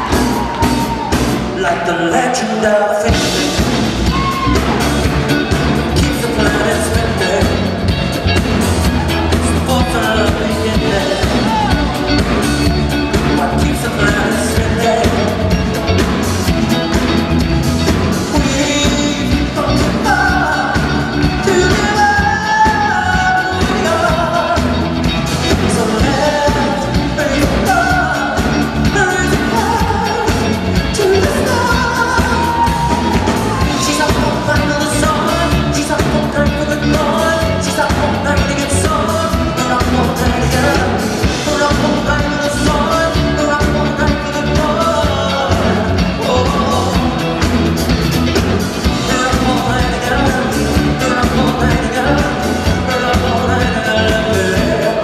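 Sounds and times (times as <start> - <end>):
band with driving beat: 0.0 - 55.0
man singing: 0.0 - 55.0.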